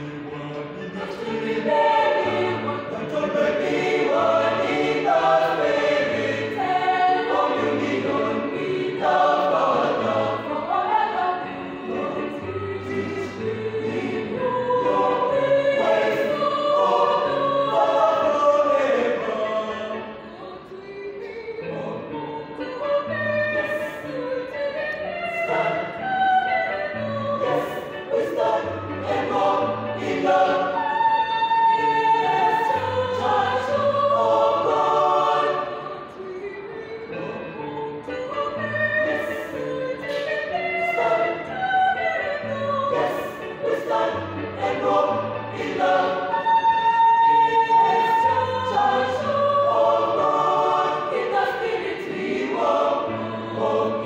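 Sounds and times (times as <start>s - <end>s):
choir singing gospel in harmony: 0.0s - 54.0s.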